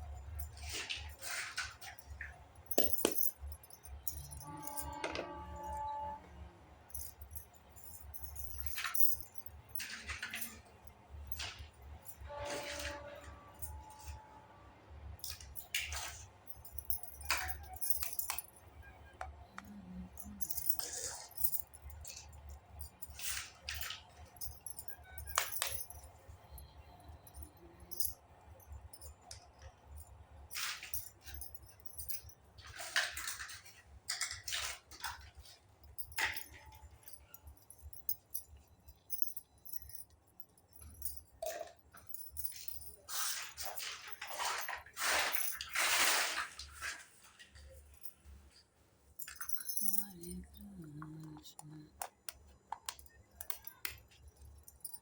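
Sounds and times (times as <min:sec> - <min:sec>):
plastic and metal toy parts clinking: 0:00.1 - 0:06.2, 0:06.8 - 0:14.4, 0:15.0 - 0:48.2, 0:49.2 - 0:55.0.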